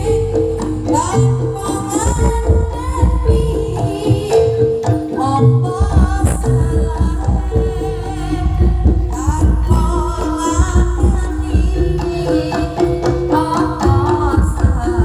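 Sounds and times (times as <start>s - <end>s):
hand drums playing busy rhythm: 0.0s - 15.0s
person singing: 0.0s - 15.0s.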